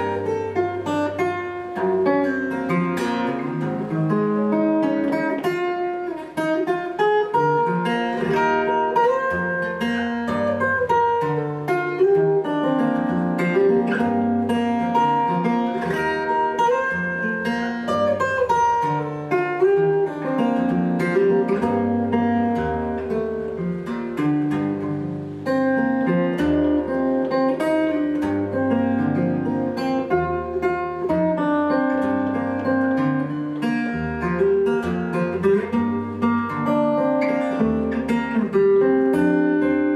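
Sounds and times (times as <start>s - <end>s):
fingerstyle acoustic guitar: 0.0s - 39.9s.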